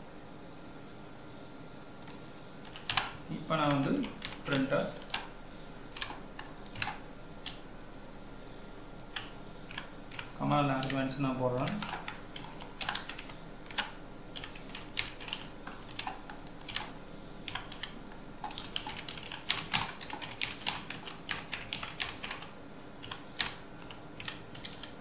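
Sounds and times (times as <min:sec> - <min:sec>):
computer keyboard typing: 0:02.0 - 0:05.3, 0:05.9 - 0:07.6, 0:09.1 - 0:25.0.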